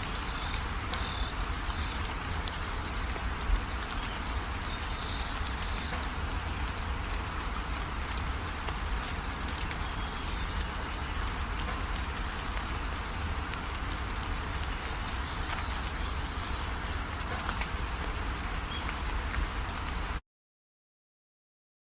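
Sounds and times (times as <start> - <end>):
small birds chirping: 0.0 - 20.2
steady rain falling: 0.0 - 20.2.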